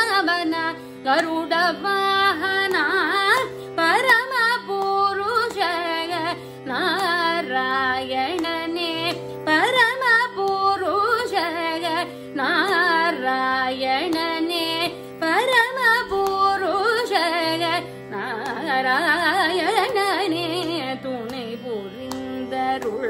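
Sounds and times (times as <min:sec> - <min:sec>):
woman singing ornamented vocal: 0:00.0 - 0:23.0.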